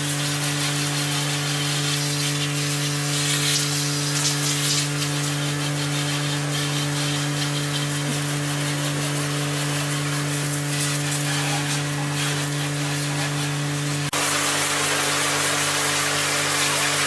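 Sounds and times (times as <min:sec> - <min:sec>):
machine humming and hissing: 0:00.0 - 0:17.0.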